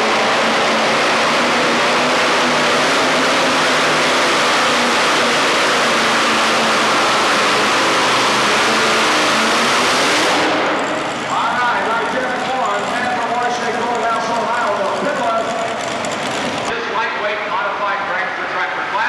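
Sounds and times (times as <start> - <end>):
tractor engine at high revs: 0.0 - 16.8.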